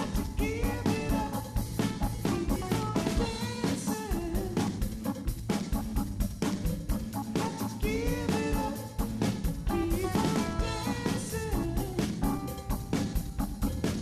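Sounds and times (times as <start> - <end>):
drum kit beat: 0.0 - 14.0
guitar: 0.0 - 14.0.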